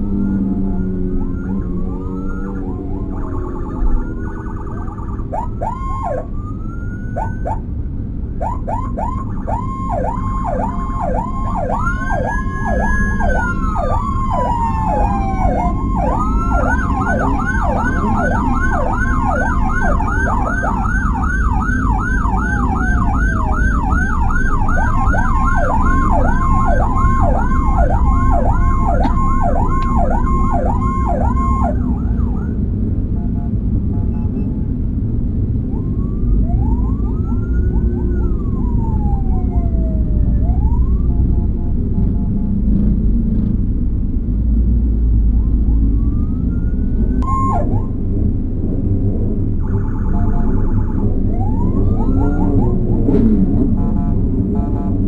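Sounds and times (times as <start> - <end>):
higher-pitched siren yelp: 0.0 - 7.7, 8.4 - 32.6, 35.7 - 41.8, 45.4 - 48.1, 49.6 - 53.1
falling siren wail: 0.0 - 7.8, 8.4 - 32.7, 35.5 - 42.5, 45.2 - 54.9
siren yelp: 0.0 - 7.8, 8.4 - 34.6, 35.6 - 42.5, 45.3 - 48.3, 49.4 - 55.0
engine and road rumble: 0.0 - 55.0.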